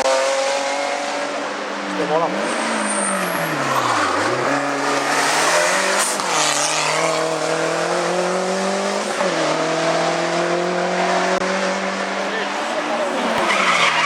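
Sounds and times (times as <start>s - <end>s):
race car engine accelerating: 0.0s - 14.0s.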